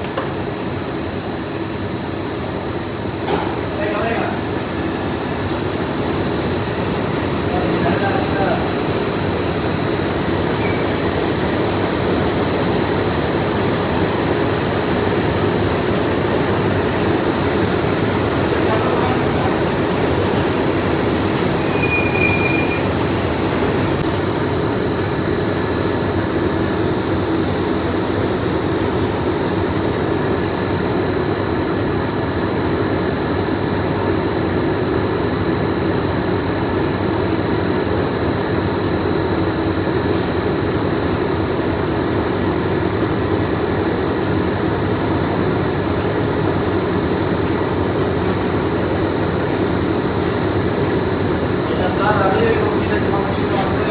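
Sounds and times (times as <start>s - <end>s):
factory machinery running: 0.0s - 53.9s.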